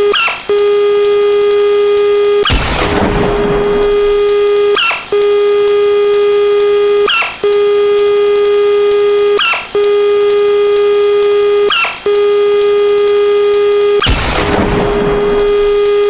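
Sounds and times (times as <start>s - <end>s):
synthesized buzzing tone: 0.0s - 16.0s.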